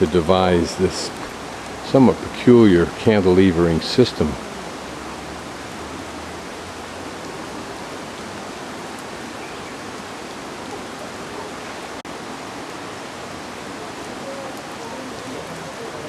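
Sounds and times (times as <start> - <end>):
rushing water: 0.0 - 16.0.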